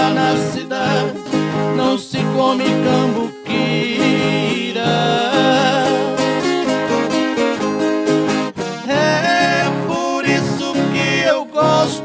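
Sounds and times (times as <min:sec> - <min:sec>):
two people singing: 0:00.0 - 0:07.4, 0:08.7 - 0:12.0
plucked string accompaniment: 0:00.0 - 0:12.0.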